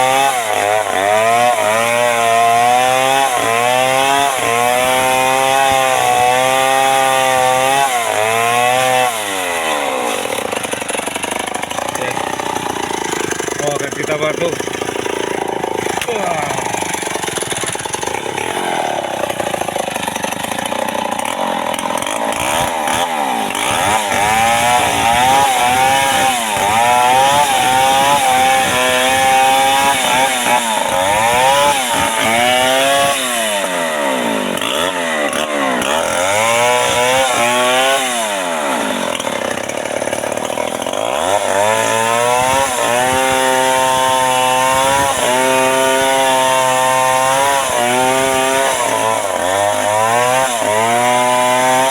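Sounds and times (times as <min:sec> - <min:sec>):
chainsaw cutting tree trunk: 0:00.0 - 0:51.9.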